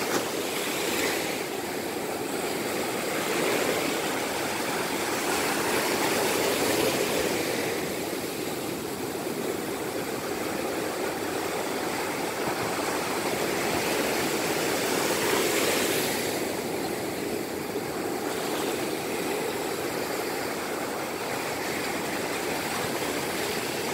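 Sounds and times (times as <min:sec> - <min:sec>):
waves breaking on beach: 0:00.0 - 0:23.9.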